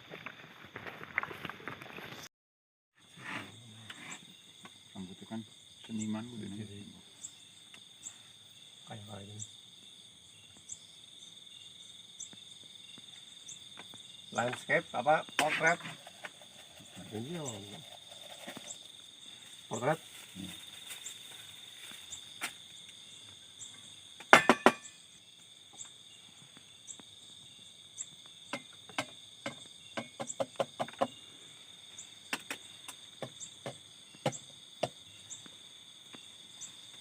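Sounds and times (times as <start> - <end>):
crickets chirping: 3.0 - 37.0.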